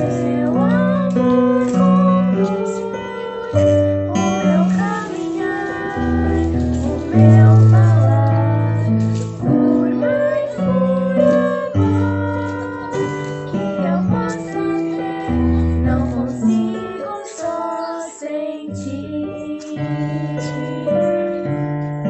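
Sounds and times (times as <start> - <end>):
girl singing: 0.0 - 21.9
keyboard accompaniment: 0.0 - 22.0.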